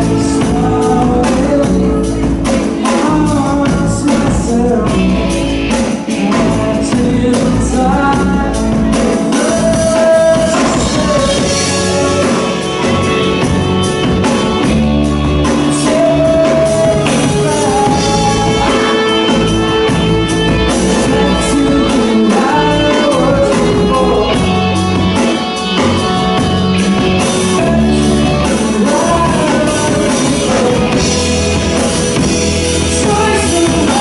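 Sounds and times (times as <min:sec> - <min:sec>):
live band playing a song: 0:00.0 - 0:34.0
person singing: 0:00.0 - 0:34.0.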